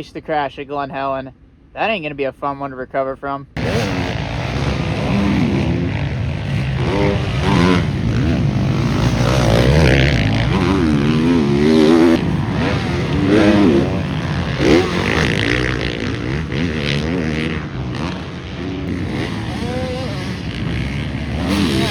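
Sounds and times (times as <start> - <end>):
dirt bike engines revving: 3.6 - 21.9.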